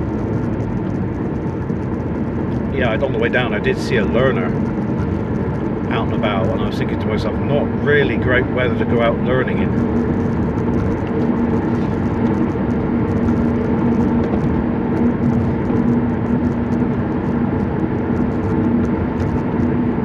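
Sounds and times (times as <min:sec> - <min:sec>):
car interior road and engine noise: 0:00.0 - 0:20.0.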